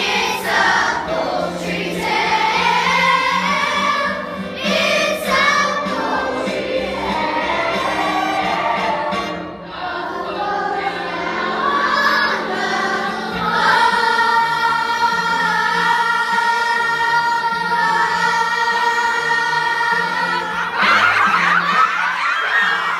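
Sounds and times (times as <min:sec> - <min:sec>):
chorus singing: 0:00.0 - 0:22.9
musical accompaniment: 0:00.0 - 0:22.9.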